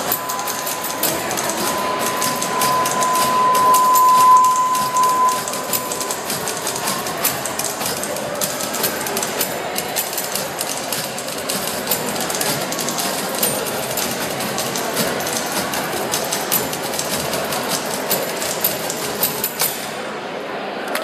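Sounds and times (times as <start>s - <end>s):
steady high tone: 0.0s - 19.7s
typewriter key clacks: 0.0s - 19.9s.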